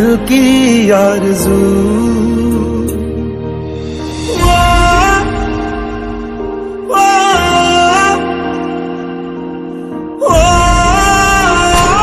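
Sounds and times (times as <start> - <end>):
slow tender instrumental music: 0.0 - 12.0.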